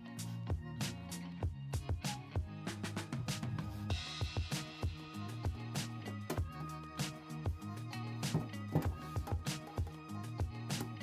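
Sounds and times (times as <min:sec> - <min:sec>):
music with drum beat and bass: 0:00.2 - 0:11.0.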